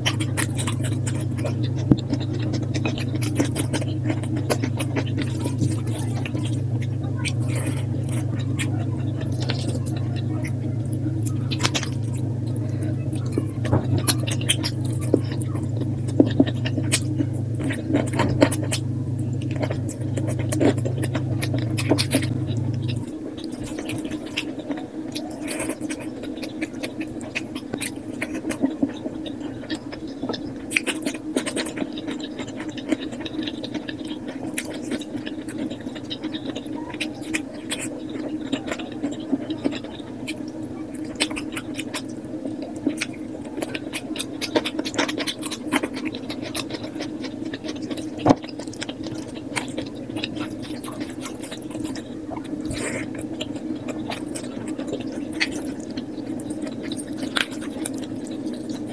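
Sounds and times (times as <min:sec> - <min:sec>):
low hum: 0:00.0 - 0:58.9
rapid chewing and mouth smacks: 0:00.0 - 0:58.9.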